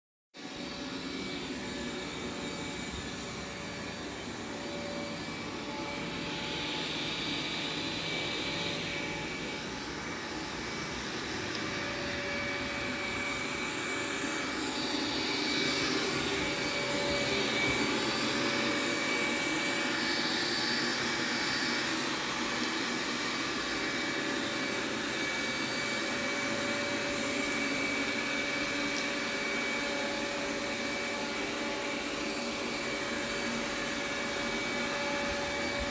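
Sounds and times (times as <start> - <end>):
robot vacuum whirring hum: 0.4 - 35.9.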